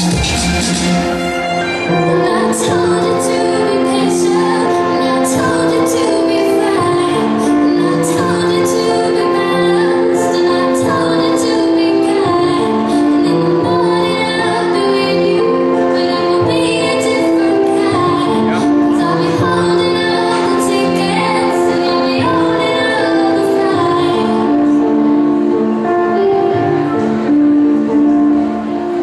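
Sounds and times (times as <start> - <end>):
instrumental accompaniment: 0.0 - 29.0
woman singing: 1.6 - 28.0.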